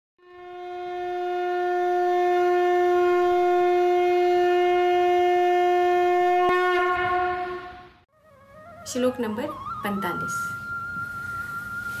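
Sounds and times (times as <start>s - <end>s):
conch shell blown: 0.2s - 12.0s.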